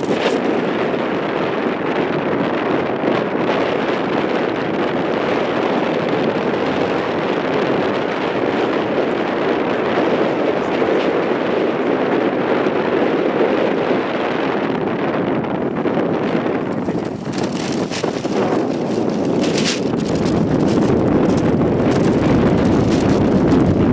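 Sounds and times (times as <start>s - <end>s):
wind blowing over microphone: 0.0s - 23.9s.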